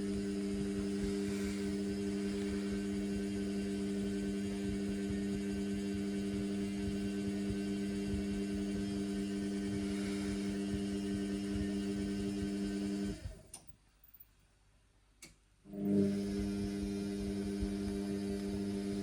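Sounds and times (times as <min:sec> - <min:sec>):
washing machine motor hum: 0:00.0 - 0:13.6, 0:15.7 - 0:19.0.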